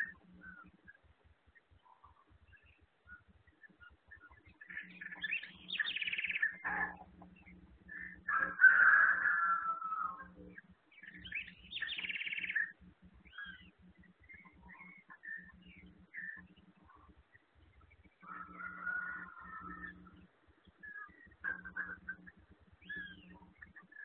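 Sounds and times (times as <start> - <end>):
birds chirping and calling: 0.0 - 24.0
faint low hum: 0.0 - 24.0.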